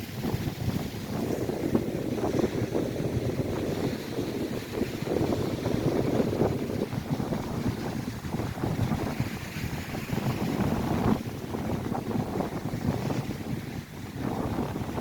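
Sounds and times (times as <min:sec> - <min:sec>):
lake waves crashing: 0:00.0 - 0:15.0
wind buffeting microphone: 0:00.0 - 0:15.0.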